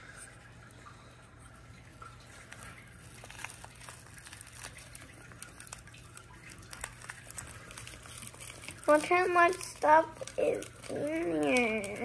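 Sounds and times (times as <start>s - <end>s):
plastic packet crinkling open: 1.9s - 12.0s.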